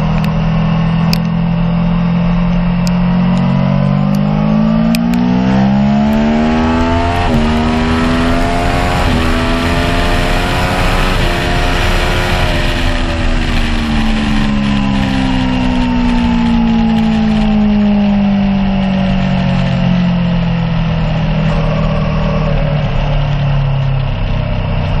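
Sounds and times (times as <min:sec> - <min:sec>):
motorcycle engine revs falling: 0:00.0 - 0:25.0.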